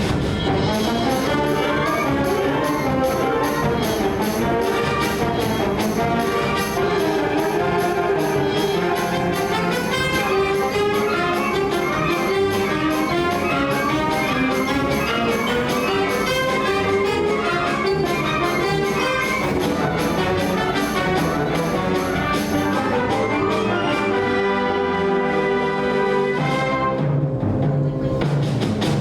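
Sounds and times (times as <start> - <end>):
percussion beat: 0.0 - 23.7
brass band playing: 0.0 - 28.1.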